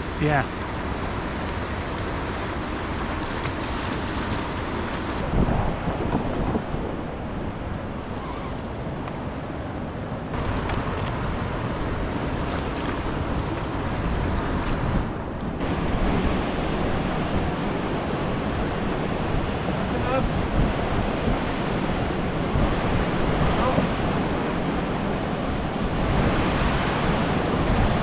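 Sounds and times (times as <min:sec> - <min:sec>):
rapids rushing: 0:00.0 - 0:06.8, 0:10.3 - 0:28.0
wind buffeting microphone: 0:00.0 - 0:28.0.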